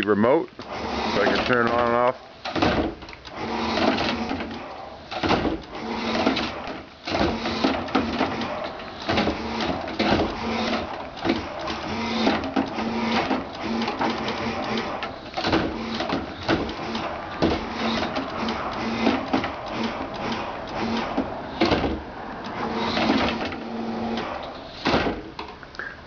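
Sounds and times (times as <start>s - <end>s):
pump humming: 2.3s - 25.9s.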